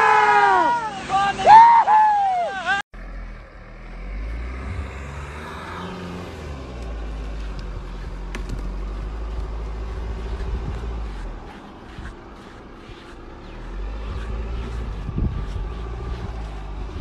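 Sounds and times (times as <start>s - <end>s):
engine running under load: 3.0s - 17.0s.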